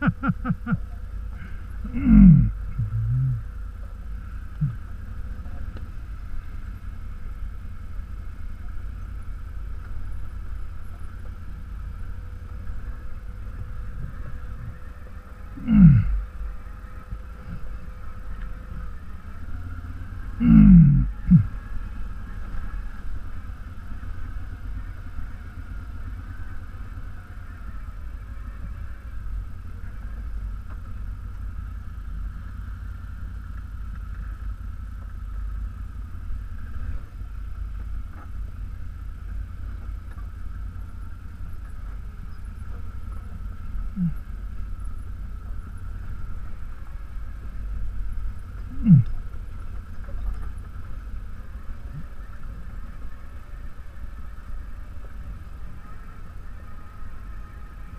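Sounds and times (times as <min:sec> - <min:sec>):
atv engine rumbling: 0:00.0 - 0:57.9.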